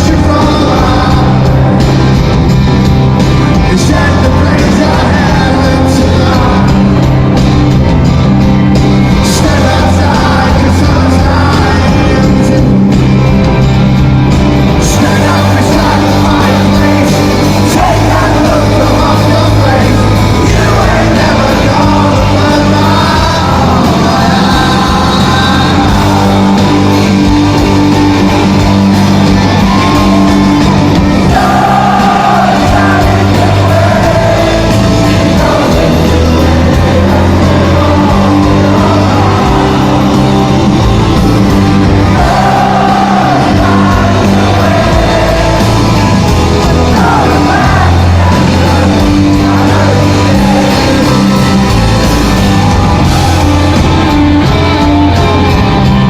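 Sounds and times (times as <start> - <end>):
person singing: 0.0 - 2.2, 3.3 - 7.3, 9.0 - 13.3, 14.7 - 56.0
bass: 0.0 - 56.0
drums: 0.0 - 56.0
guitars: 0.0 - 56.0.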